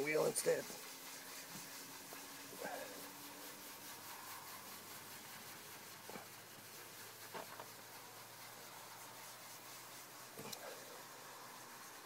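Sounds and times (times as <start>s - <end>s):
cloth rubbing on plastic: 0.0s - 12.0s.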